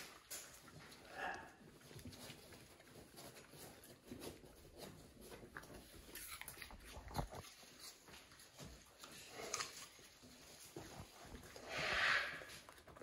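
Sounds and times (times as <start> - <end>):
raccoon snuffling and lip-smacking: 0.0 - 13.0.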